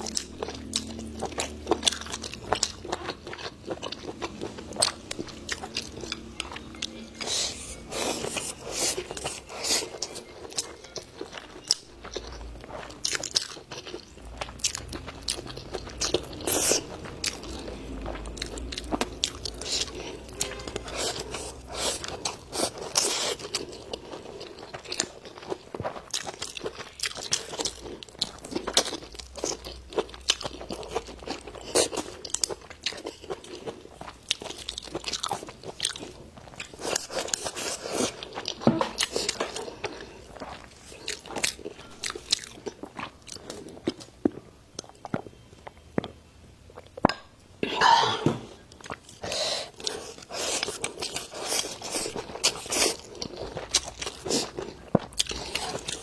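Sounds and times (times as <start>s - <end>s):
person chewing crunchy food: 0.0s - 47.1s, 47.7s - 56.0s.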